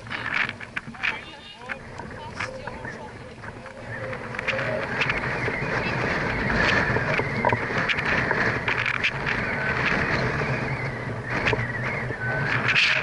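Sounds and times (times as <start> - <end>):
distant football game: 0.0 - 13.0
wind buffeting microphone: 0.0 - 13.0.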